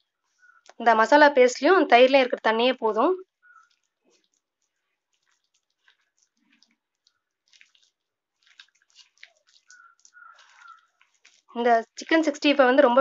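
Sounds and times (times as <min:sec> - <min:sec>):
wet squishing of kneading meat: 0:00.0 - 0:01.0, 0:03.0 - 0:13.0.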